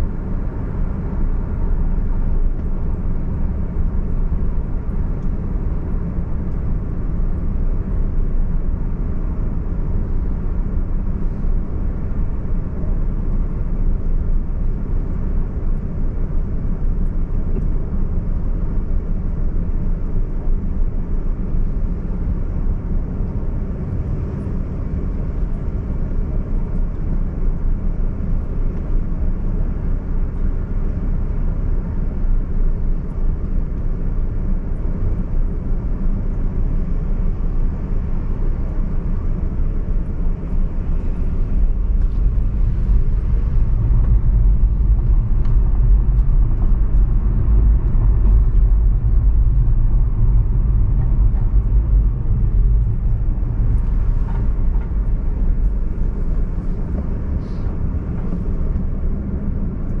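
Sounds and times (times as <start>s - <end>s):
car road and engine rumble: 0.0s - 60.0s.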